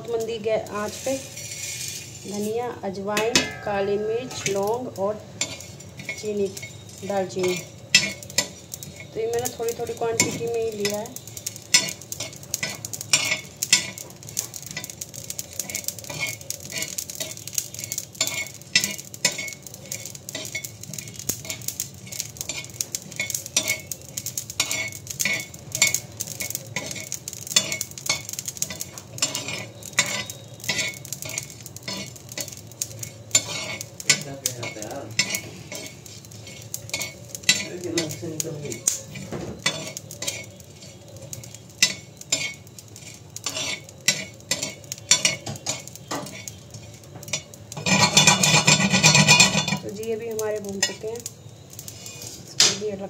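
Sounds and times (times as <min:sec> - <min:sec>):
light sizzle: 0:00.0 - 0:53.0
metal spoon scraping spices: 0:00.2 - 0:50.0, 0:50.6 - 0:52.7.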